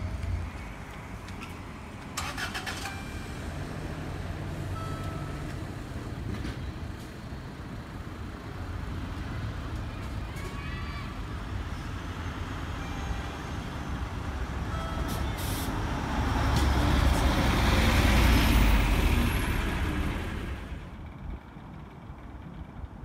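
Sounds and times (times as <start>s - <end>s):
bus driving past: 0.0s - 23.0s.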